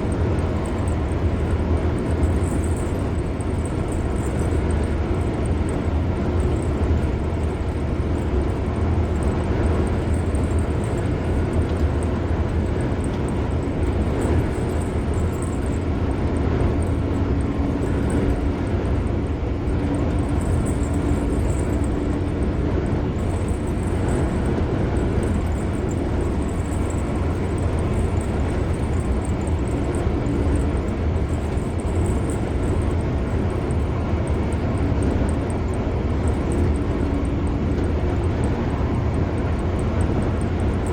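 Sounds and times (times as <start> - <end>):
faint engine drone: 0.0 - 40.9
tyre and road noise: 0.0 - 40.9.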